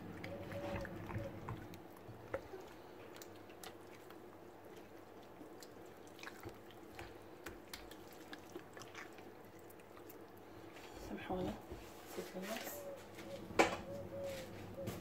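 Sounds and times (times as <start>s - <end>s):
wet squelches of hands massaging meat: 0.0s - 13.3s.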